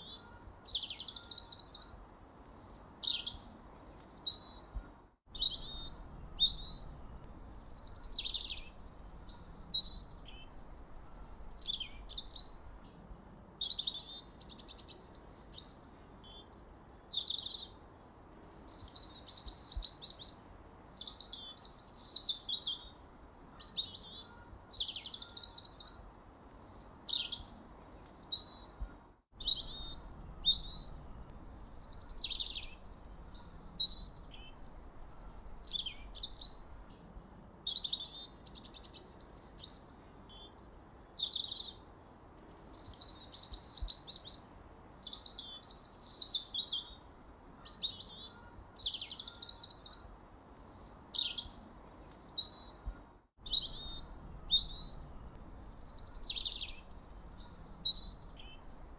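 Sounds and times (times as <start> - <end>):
songbirds singing and chirping: 0.0 - 58.9.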